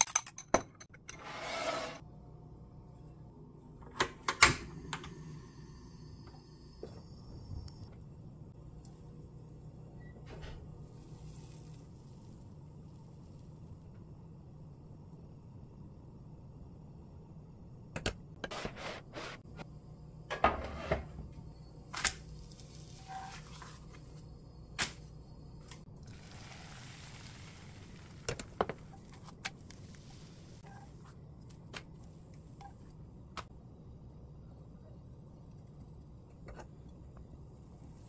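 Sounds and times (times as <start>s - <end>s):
low steady hum: 2.0s - 38.0s.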